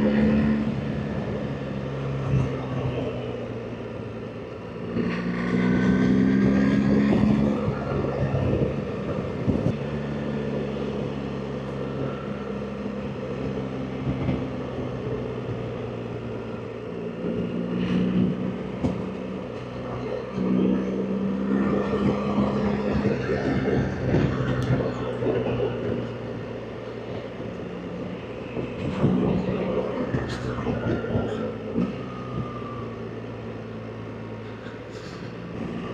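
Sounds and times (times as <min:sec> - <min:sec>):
wind and road noise: 0:00.0 - 0:35.9.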